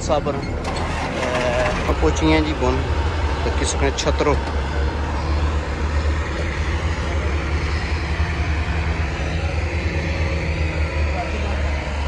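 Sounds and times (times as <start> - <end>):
tractor engines rumbling: 0.0 - 12.0.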